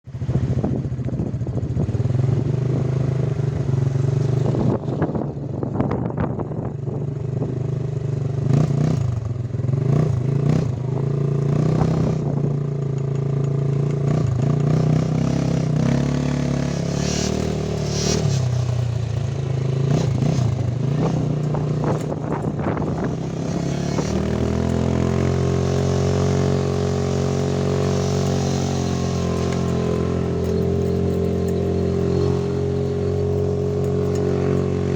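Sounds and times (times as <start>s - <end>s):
vehicle engine running: 0.1s - 34.9s.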